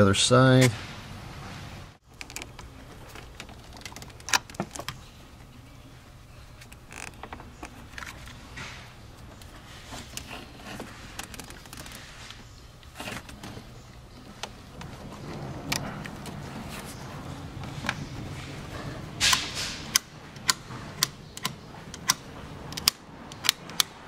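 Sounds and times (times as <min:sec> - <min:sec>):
low steady hum: 0:00.0 - 0:24.0
handling noise: 0:00.6 - 0:05.8, 0:06.4 - 0:24.0.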